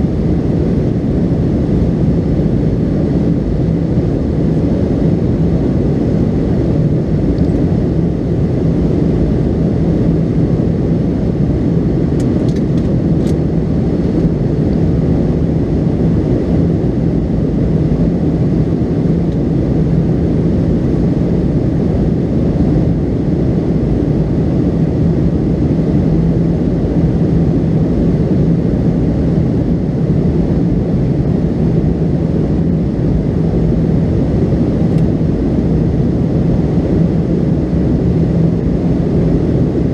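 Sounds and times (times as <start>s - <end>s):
jet engine drone: 0.0s - 39.9s.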